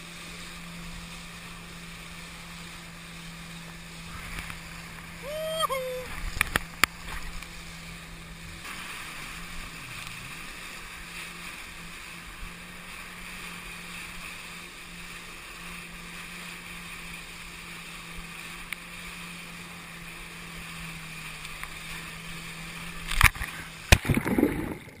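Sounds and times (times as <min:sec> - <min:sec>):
jet ski engine humming: 0:00.0 - 0:25.0
water and wind rushing: 0:00.0 - 0:25.0
water splashing: 0:00.0 - 0:25.0.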